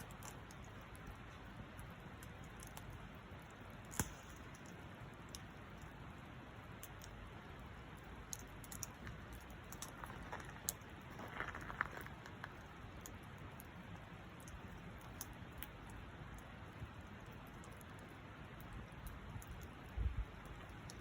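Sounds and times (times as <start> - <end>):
campfire crackling: 0.0 - 21.0
fire popping: 0.0 - 21.0
low hiss: 0.0 - 21.0.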